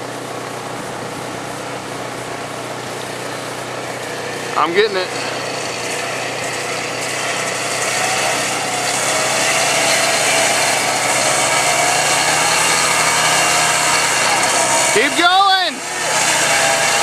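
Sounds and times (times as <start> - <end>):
atv engine revving high: 0.0 - 17.0.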